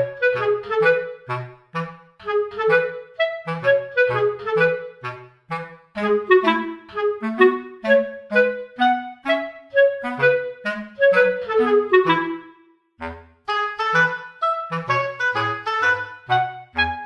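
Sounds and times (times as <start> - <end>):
bouncy melody of short notes: 0.0 - 17.0.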